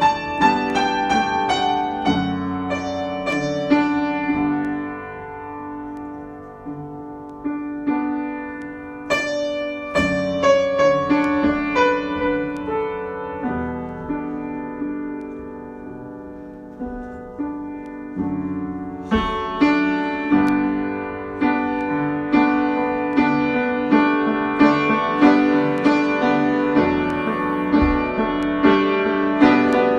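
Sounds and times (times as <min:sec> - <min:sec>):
solo piano: 0:00.0 - 0:29.9.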